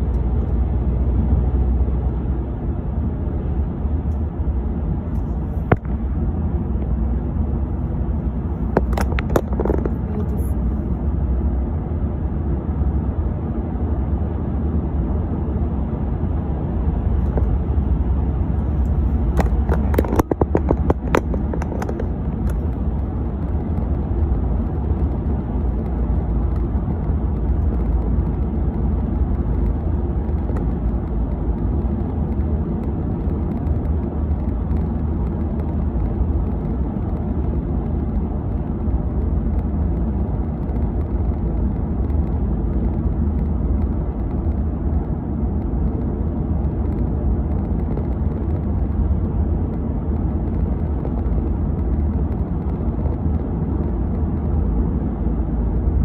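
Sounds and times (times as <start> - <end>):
car interior road noise: 0.0 - 56.0.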